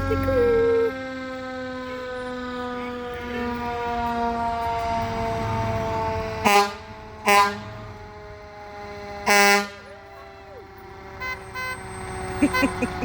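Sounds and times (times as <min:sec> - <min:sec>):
low engine rumble: 0:00.0 - 0:13.0
fire engine air horn blasts: 0:00.1 - 0:13.0.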